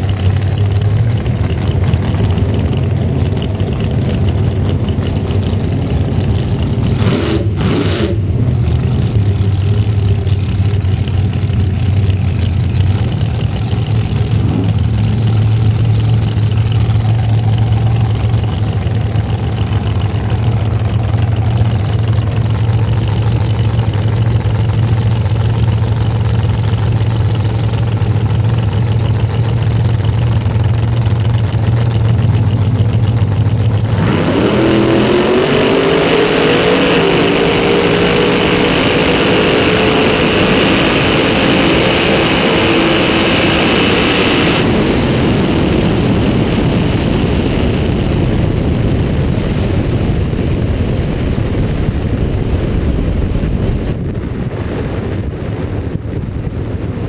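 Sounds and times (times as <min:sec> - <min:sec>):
dragster engine at full throttle: 0:00.0 - 0:57.0
steady rushing noise: 0:00.0 - 0:57.0.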